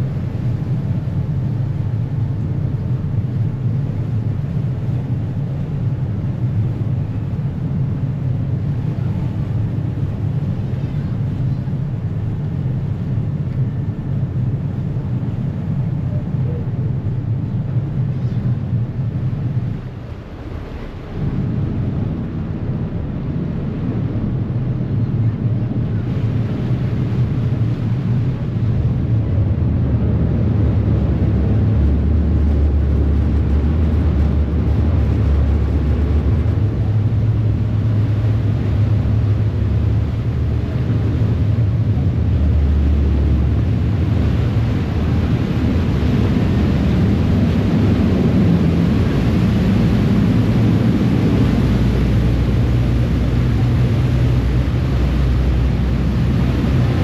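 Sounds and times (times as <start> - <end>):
ferry engine droning: 0.0 - 57.0
water rushing in wake: 0.0 - 57.0.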